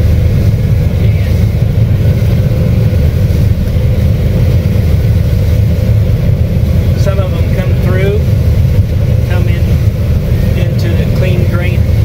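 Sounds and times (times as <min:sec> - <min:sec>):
combine harvester low rumble: 0:00.0 - 0:12.0.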